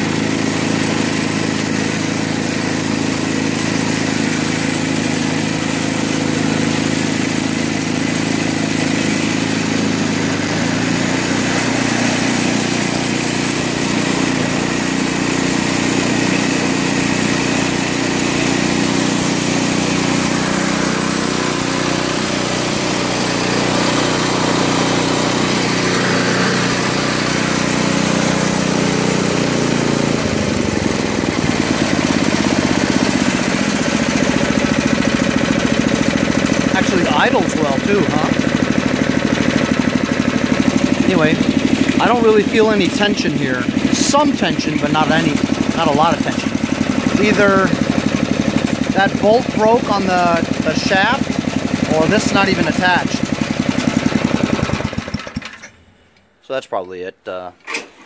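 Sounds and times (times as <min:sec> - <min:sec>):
snowblower engine running: 0:00.0 - 0:56.0.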